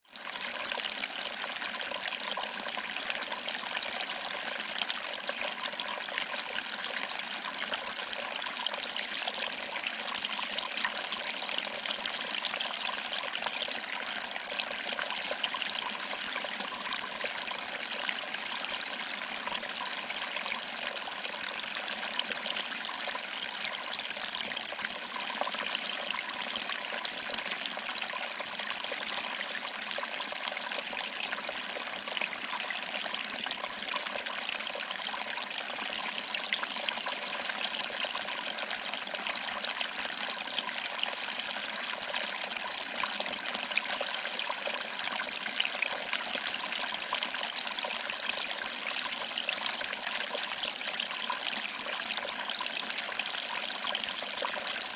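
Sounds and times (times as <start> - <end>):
water trickling over rocks: 0.0 - 54.9.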